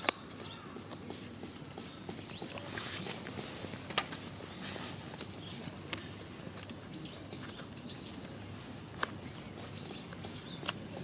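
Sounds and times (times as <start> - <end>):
small birds chirping: 0.0 - 11.0
wood fire crackling and popping: 0.0 - 11.0.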